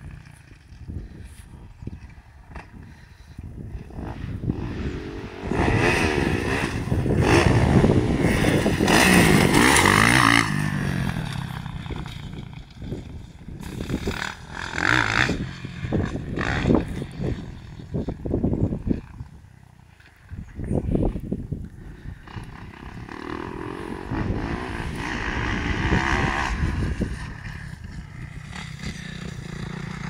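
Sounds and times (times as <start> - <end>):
wind rumble on microphone: 0.0 - 30.0
dirt bike engine revving: 2.5 - 19.3, 21.8 - 30.0.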